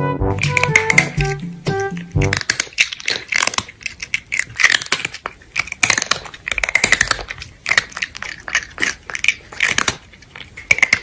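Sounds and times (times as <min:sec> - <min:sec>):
crunchy chewing and biting: 0:00.3 - 0:11.0.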